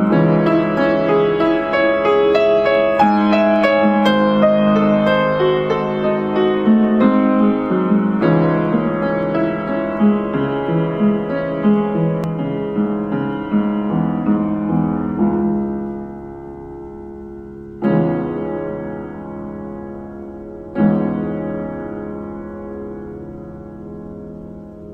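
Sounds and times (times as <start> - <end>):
solo piano music: 0.0 - 24.9.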